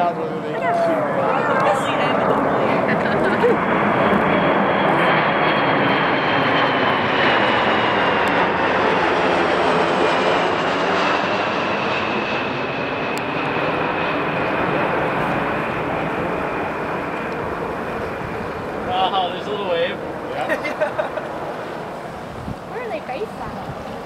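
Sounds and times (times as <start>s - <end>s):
jet aircraft flying overhead: 0.0s - 24.0s.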